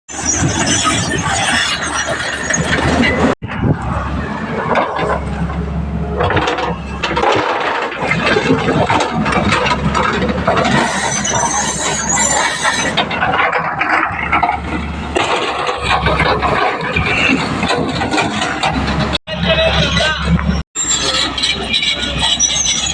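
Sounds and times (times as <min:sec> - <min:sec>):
excavator diesel engine droning: 0:00.1 - 0:22.9
metallic clatter and squeals: 0:00.1 - 0:22.9.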